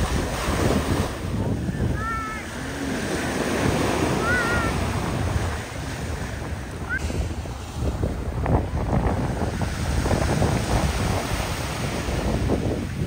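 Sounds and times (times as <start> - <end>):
waves washing onto sand: 0.0 - 13.0
wind buffeting microphone: 0.0 - 13.0.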